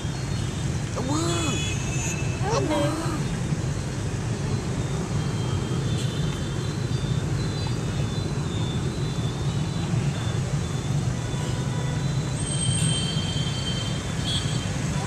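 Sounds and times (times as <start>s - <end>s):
motorbike engines: 0.0s - 15.0s
street traffic rumble: 0.0s - 15.0s.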